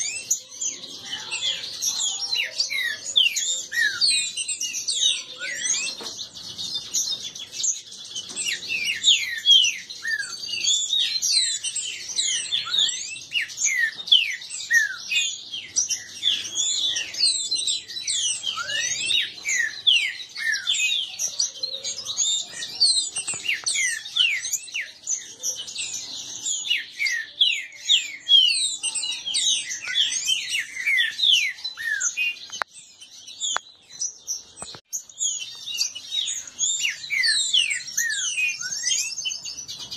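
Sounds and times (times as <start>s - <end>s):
birds singing whistled phrases: 0.0s - 39.9s.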